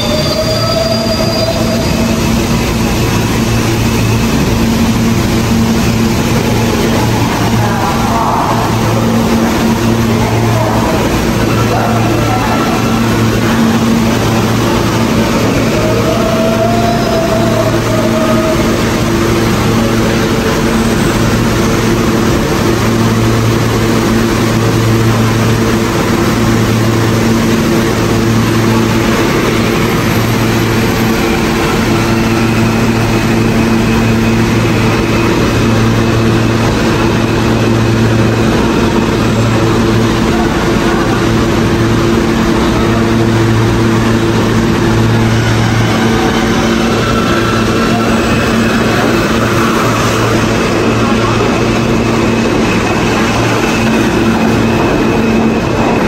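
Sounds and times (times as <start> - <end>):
subway train equipment humming: 0.0 - 56.0.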